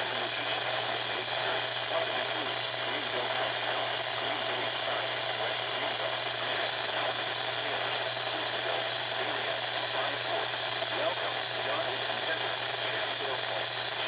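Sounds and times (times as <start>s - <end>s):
radio static hiss and crackle: 0.0s - 14.0s.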